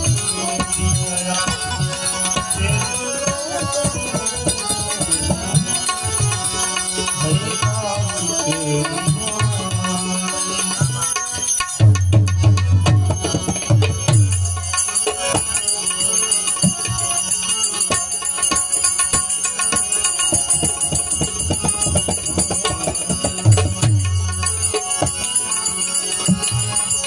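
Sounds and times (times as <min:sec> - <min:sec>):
hand cymbals jingling: 0:00.0 - 0:27.0
harmonium: 0:00.0 - 0:27.0.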